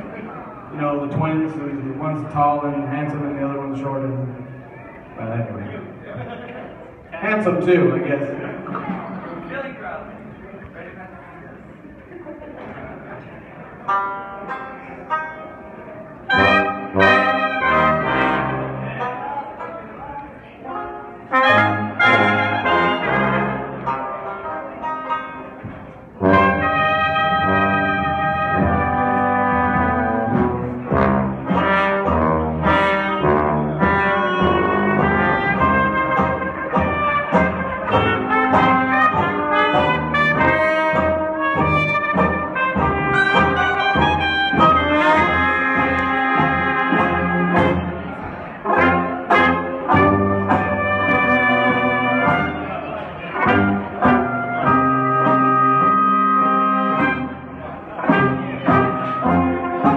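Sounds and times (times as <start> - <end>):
traditional jazz band playing: 0.0 - 6.0, 13.6 - 59.9.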